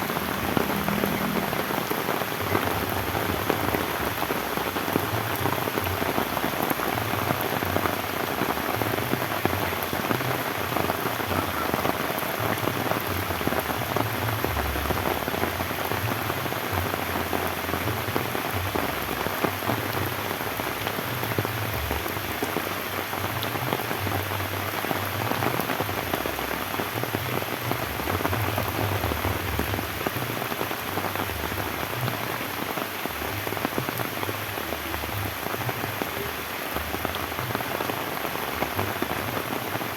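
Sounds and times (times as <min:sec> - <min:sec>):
heavy rain on bamboo: 0:00.0 - 0:39.9.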